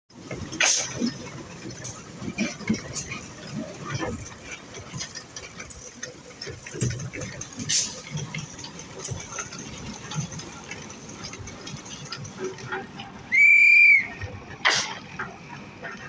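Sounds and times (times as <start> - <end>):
machine rumble: 0.1 - 16.0.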